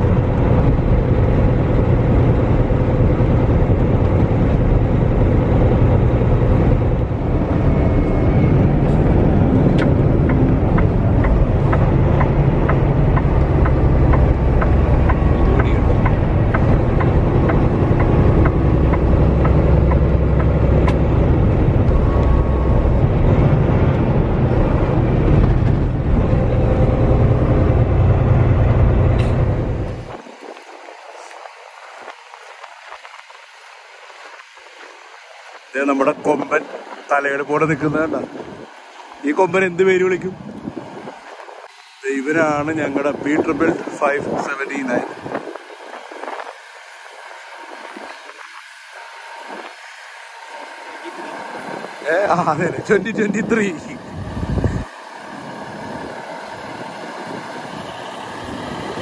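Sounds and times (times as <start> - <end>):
road noise: 0.0 - 59.0
truck engine drone: 0.0 - 59.0.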